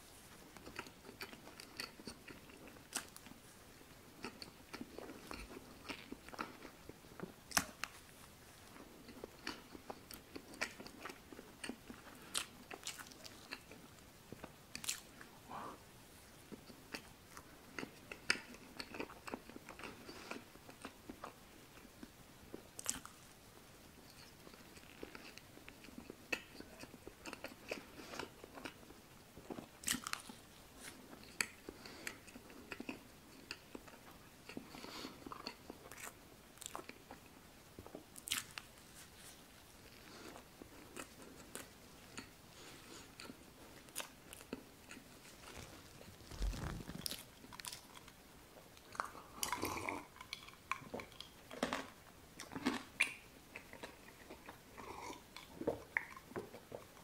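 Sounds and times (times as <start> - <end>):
person chewing cake: 0.2 - 57.0.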